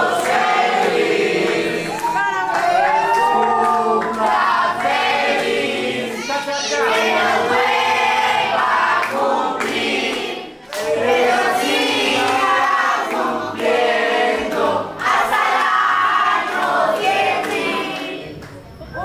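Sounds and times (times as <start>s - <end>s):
crowd singing: 0.0s - 19.0s.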